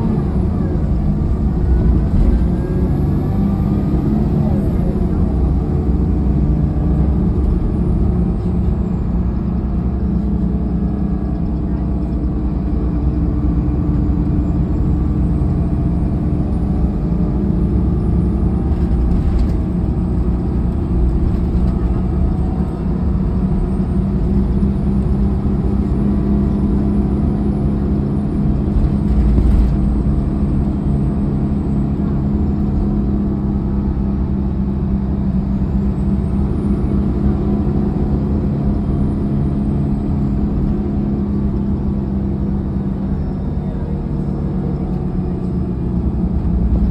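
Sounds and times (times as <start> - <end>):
bus diesel engine running: 0.0 - 46.9
road rumble: 0.0 - 46.9.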